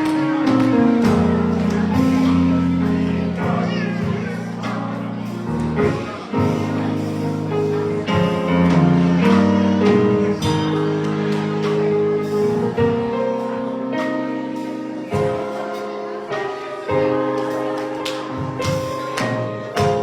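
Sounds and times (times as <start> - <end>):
instrumental music with chords: 0.0 - 20.0.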